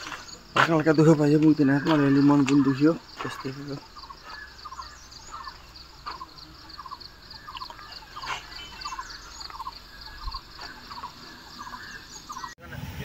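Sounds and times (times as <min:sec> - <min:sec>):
animal chirping: 0:01.8 - 0:12.6.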